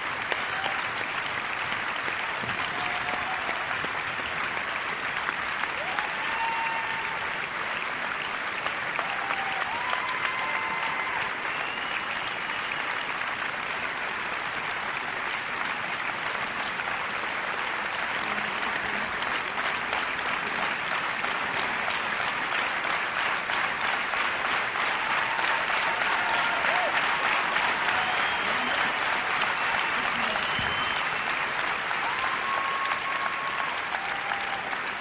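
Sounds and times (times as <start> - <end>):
large audience applauding: 0.0 - 35.0.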